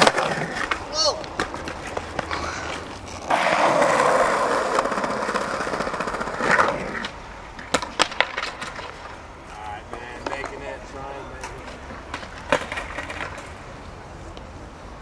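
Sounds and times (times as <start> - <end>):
skateboard wheels grinding on paving: 0.0 - 14.0
skateboard clacking on ground: 0.0 - 14.5.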